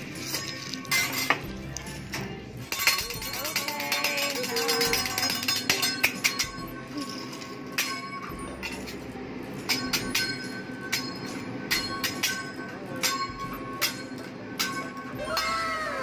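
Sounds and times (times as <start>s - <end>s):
metal spatula clanking on griddle: 0.0s - 1.5s, 2.2s - 9.0s, 9.6s - 15.7s.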